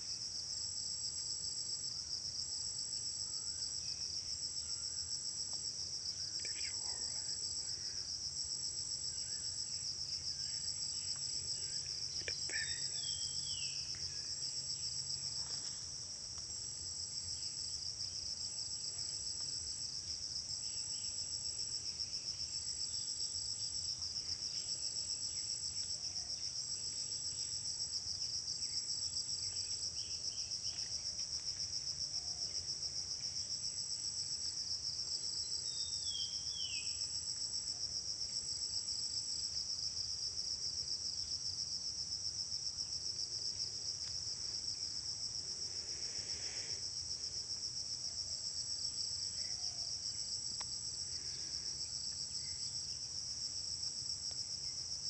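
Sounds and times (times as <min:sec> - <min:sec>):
insects trilling: 0:03.2 - 0:54.9.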